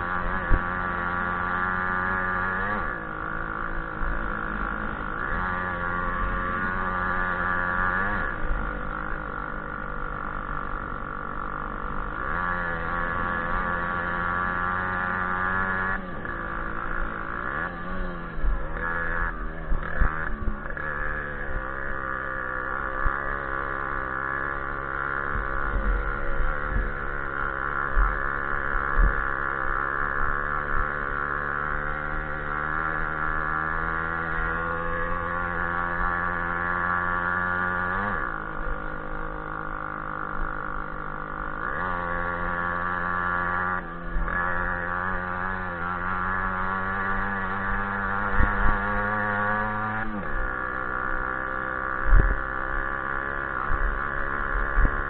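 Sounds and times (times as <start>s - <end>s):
moped engine revving: 0.0s - 55.0s.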